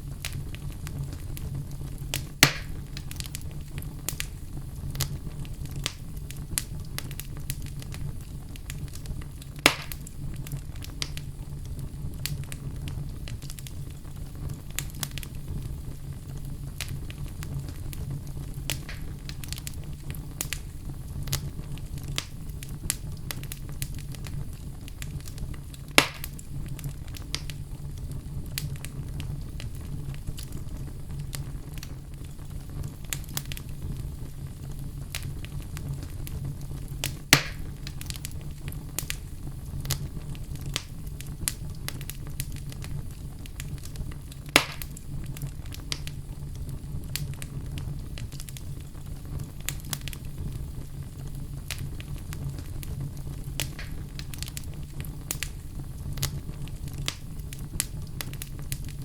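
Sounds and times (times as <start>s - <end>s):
fire popping loudly: 0.0s - 59.0s
wood fire crackling: 0.0s - 59.0s.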